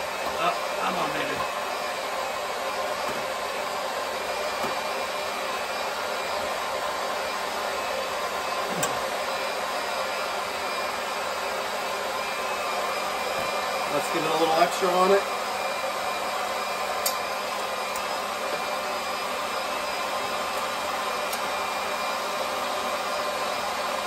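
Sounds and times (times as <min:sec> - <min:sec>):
water pump whirring: 0:00.0 - 0:24.0.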